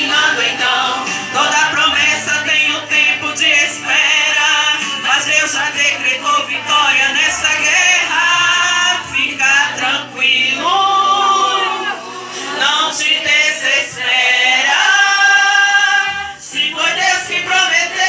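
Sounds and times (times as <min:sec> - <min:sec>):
person singing a hymn: 0:00.0 - 0:18.0.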